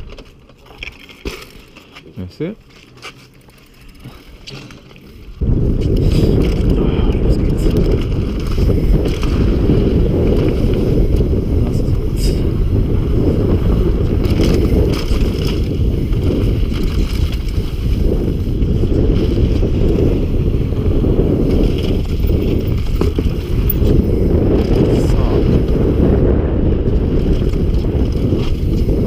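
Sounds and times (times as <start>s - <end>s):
bike rattling over gravel: 0.0s - 29.0s
wind buffeting microphone: 3.6s - 29.0s.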